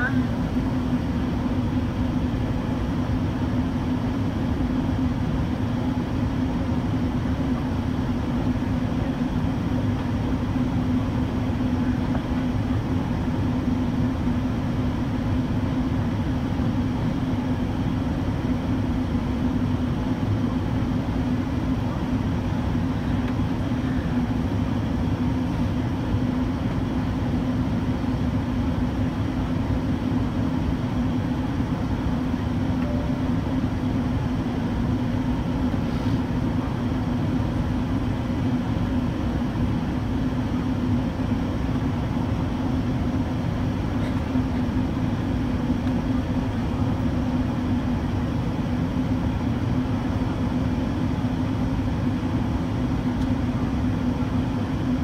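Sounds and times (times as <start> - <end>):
aircraft engine drone: 0.0 - 55.0
steady low hum: 0.0 - 55.0.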